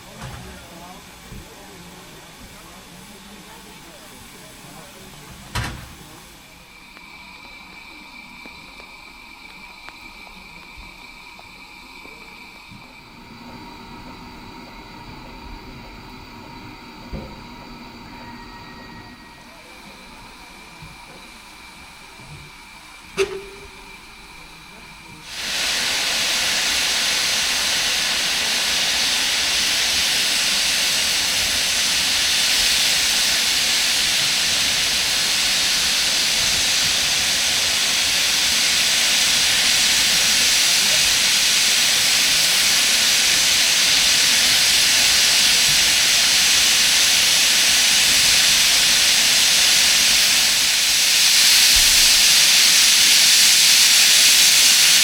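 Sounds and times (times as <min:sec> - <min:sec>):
steam locomotive venting steam: 0:00.0 - 0:55.0.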